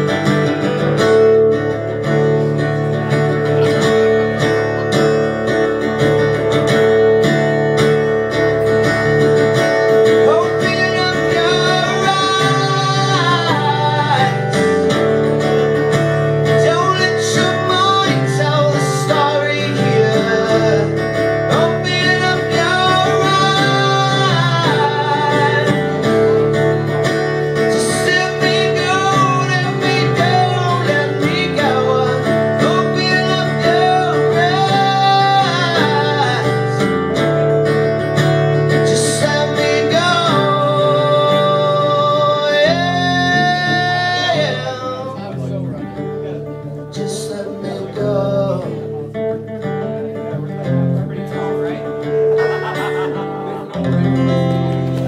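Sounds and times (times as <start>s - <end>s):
man singing: 0.0s - 54.3s
strummed guitar: 0.0s - 55.0s.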